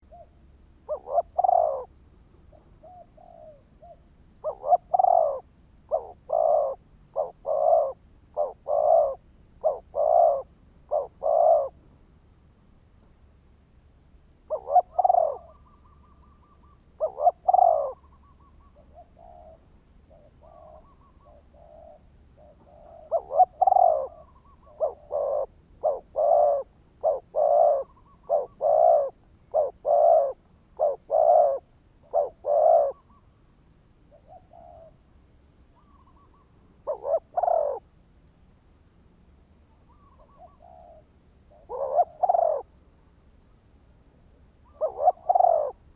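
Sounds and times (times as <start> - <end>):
dove cooing: 0.0 - 11.9, 14.4 - 33.4, 34.1 - 35.0, 35.7 - 37.9, 39.7 - 42.8, 44.6 - 45.9.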